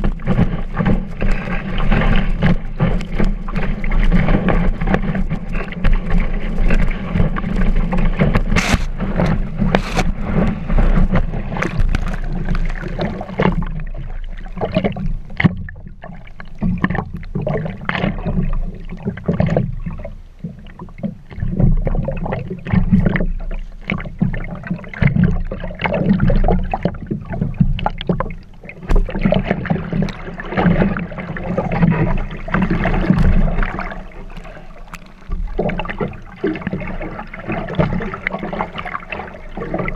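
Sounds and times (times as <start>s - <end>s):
water splashing against board: 0.0s - 39.9s.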